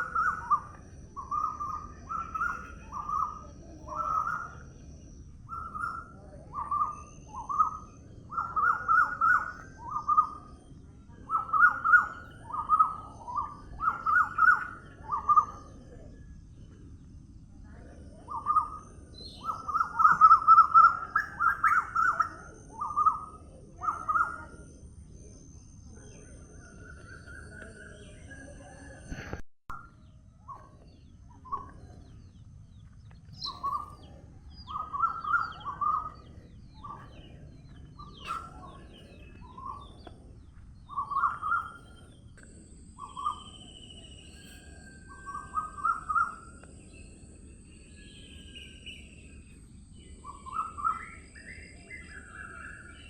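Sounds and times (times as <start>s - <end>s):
low outdoor hiss: 0.0s - 29.0s, 30.1s - 53.0s
birds chirping: 0.0s - 53.0s.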